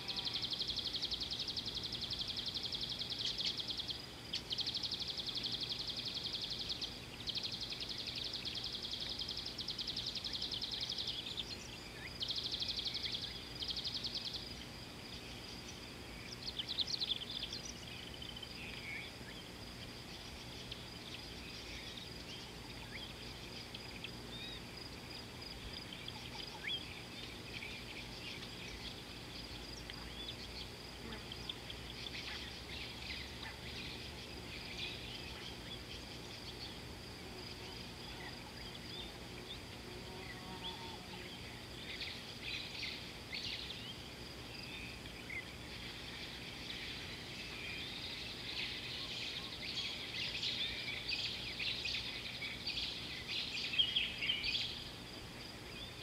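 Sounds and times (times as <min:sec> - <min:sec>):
insect chorus: 0:00.0 - 0:56.0
insects buzzing shrill: 0:00.0 - 0:56.0.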